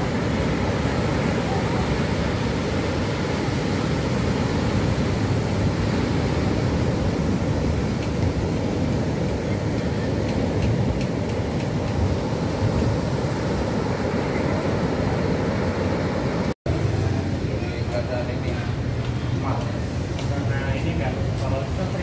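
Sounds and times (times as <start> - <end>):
surf breaking on a beach: 0.0 - 20.2.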